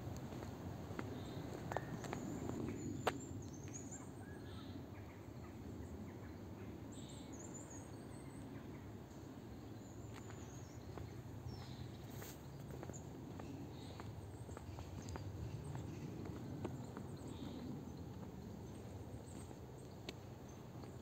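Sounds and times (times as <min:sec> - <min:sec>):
low background hum: 0:00.0 - 0:21.0
birds chirping: 0:00.2 - 0:21.0.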